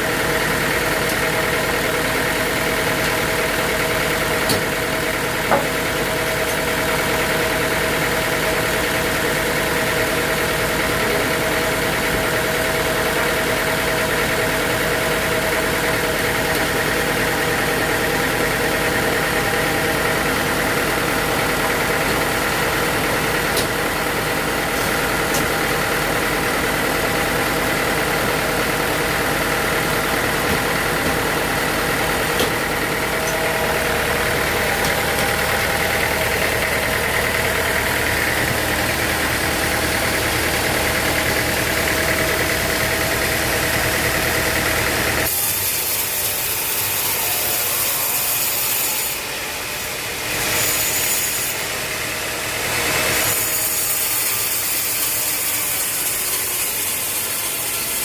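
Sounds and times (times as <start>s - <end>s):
machinery whine: 0.0s - 50.3s
sawmill engine hum: 0.0s - 58.0s.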